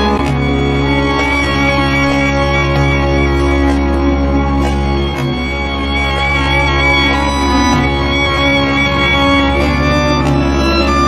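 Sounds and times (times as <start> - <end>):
instrumental music with held notes: 0.0 - 11.0
steady low drone: 0.0 - 11.0.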